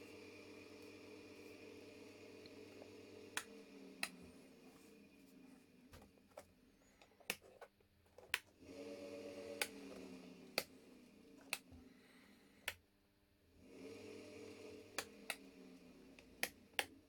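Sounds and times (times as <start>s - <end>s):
washing machine motor humming: 0.0s - 7.0s, 8.5s - 12.7s, 13.5s - 17.0s.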